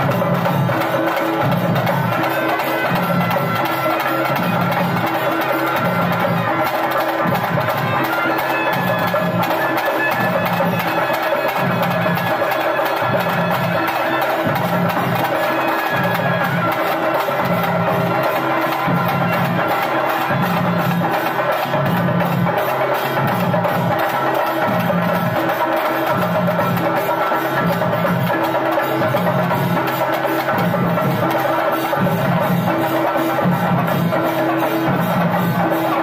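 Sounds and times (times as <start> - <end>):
drums and percussion rhythm: 0.0 - 36.0.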